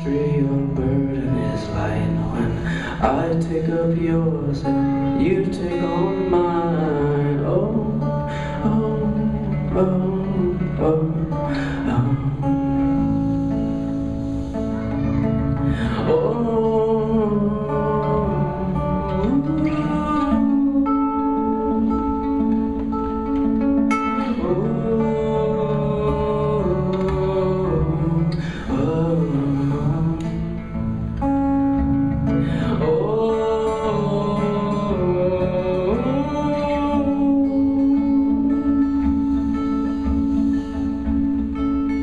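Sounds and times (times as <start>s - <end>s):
man singing: 0.0s - 42.0s
strummed acoustic guitar: 0.0s - 42.0s.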